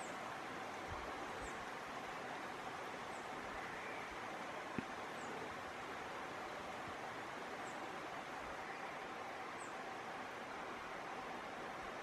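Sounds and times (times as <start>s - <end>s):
wind and rustling leaves: 0.0s - 12.0s.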